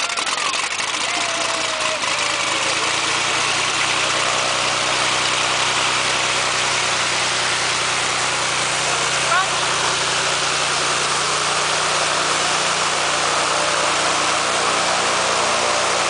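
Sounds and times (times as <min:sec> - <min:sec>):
aircraft engine starting and idling: 0:00.0 - 0:16.0.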